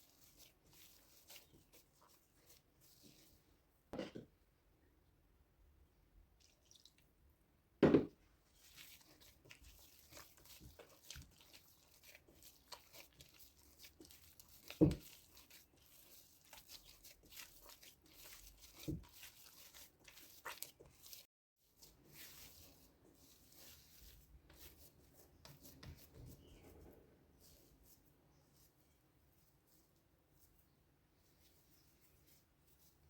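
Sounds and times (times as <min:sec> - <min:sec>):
dough crackling and rubbing: 0:00.0 - 0:03.6, 0:08.4 - 0:33.0.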